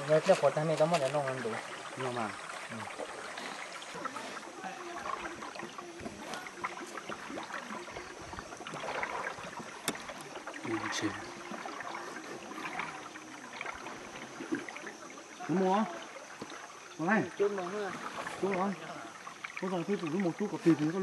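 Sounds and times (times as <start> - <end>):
paddle splashing in water: 0.0 - 21.0
water lapping around boat: 0.0 - 21.0.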